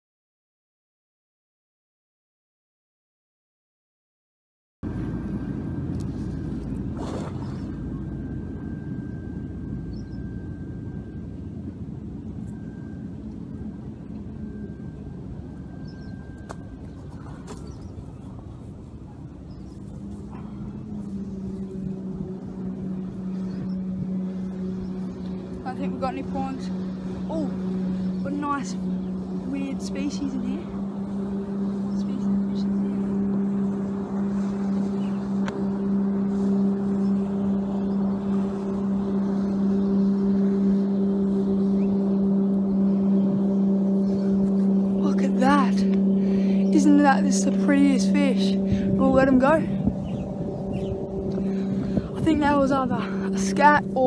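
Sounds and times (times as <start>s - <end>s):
distant engines rumbling: 4.8s - 54.0s
motor humming: 4.8s - 54.0s.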